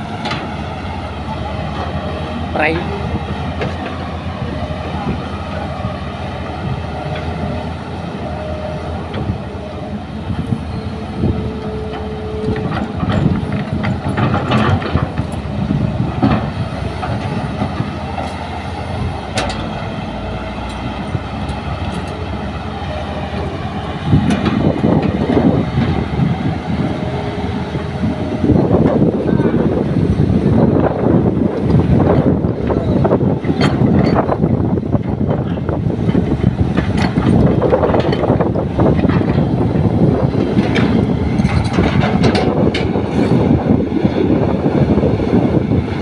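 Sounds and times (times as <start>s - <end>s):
excavator diesel engine under load: 0.0s - 46.0s.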